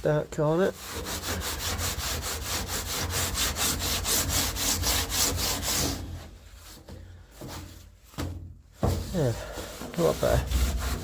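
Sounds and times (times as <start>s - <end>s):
hand scraping on steel floor: 0.4s - 11.0s.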